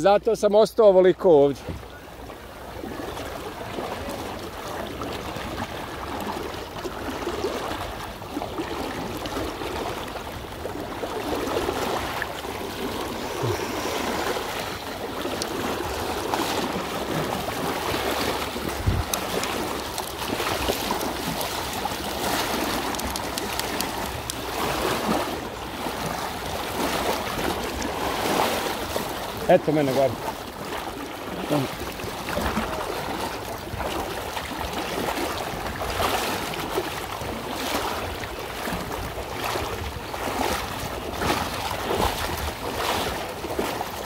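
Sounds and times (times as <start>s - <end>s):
river water flowing and splashing: 0.0s - 44.0s.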